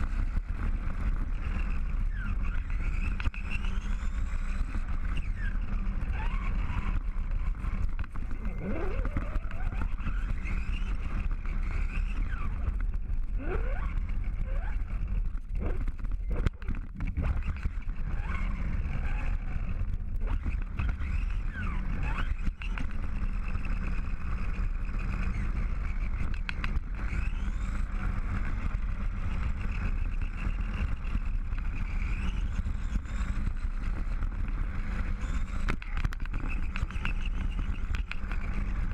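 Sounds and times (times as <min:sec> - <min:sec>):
motor whine: 0:00.0 - 0:38.9.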